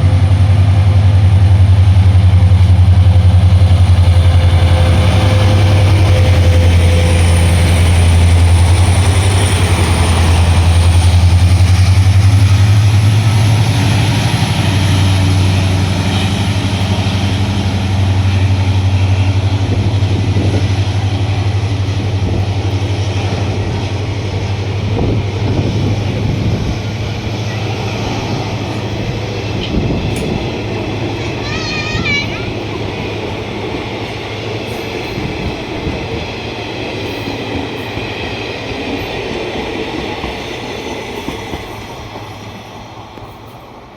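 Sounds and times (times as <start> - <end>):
diesel locomotive engine humming: 0.0 - 43.9.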